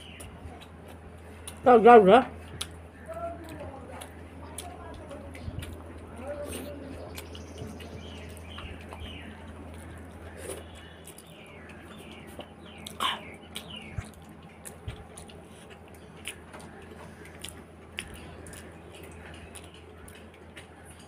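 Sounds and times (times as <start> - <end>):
person chewing rice: 0.0 - 21.0.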